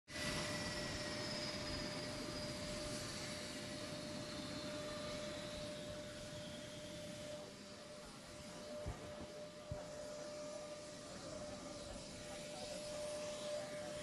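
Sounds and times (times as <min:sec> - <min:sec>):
steady hum: 0:00.1 - 0:14.0
turbine whine falling in pitch: 0:00.1 - 0:14.0.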